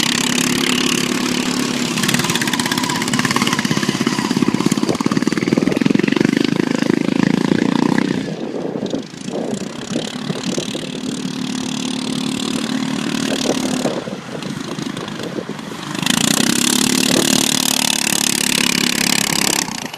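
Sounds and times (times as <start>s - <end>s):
lawn mower engines running: 0.0s - 19.9s.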